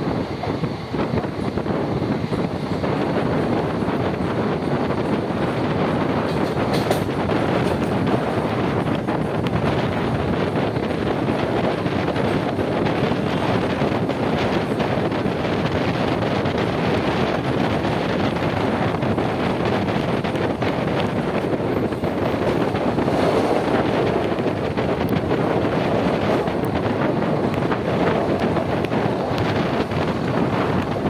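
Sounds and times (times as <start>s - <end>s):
train wheels rumbling on rails: 0.0s - 31.0s
wind buffeting microphone: 0.0s - 31.0s.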